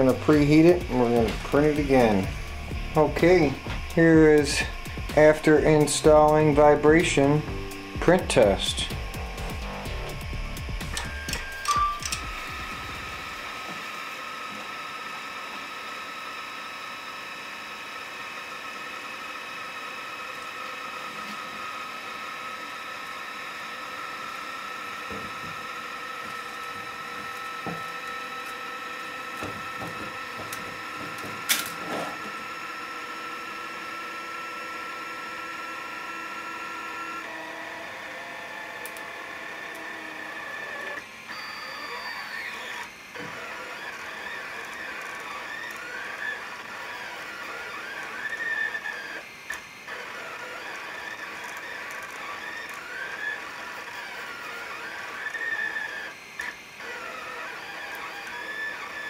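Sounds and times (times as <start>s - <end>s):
fan whine: 0.0s - 59.0s
stepper motors running: 0.0s - 59.0s.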